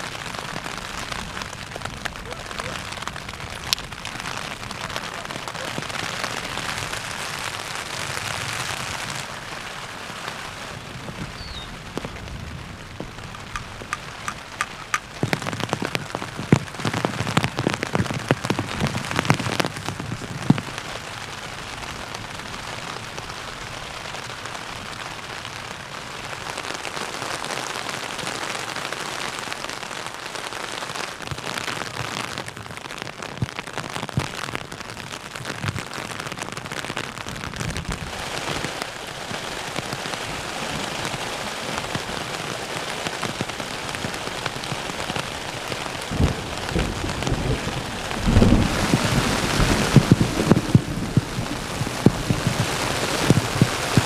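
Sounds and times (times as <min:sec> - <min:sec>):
heavy rain on tent fabric: 0:00.0 - 0:54.0.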